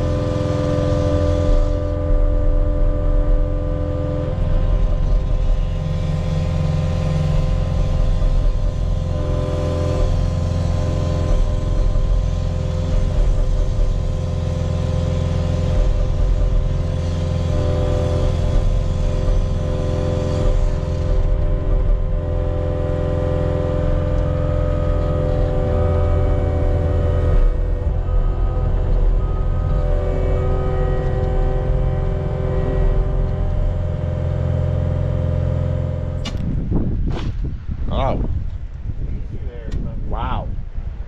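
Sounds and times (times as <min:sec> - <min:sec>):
earthmoving diesel engine running: 0:00.0 - 0:41.0.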